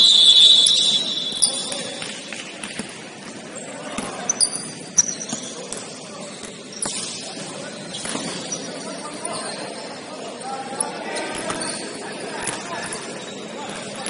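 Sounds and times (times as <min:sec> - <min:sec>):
players' voices echoing: 0:00.0 - 0:14.0
sneaker squeaks: 0:00.0 - 0:14.0.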